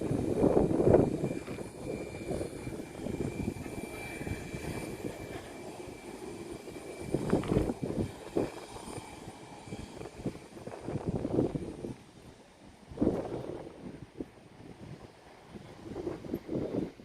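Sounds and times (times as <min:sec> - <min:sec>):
airplane engine rumble: 0:00.0 - 0:17.0
faint high whine: 0:00.0 - 0:17.0.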